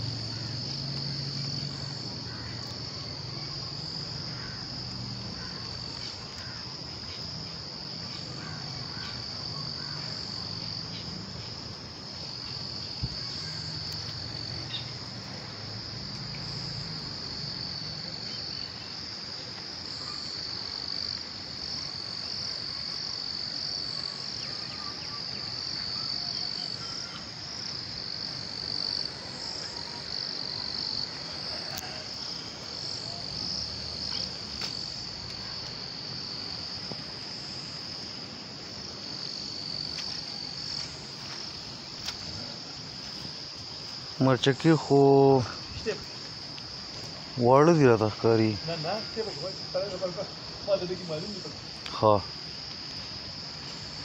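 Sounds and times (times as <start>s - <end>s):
insect chorus trilling: 0.0s - 54.0s.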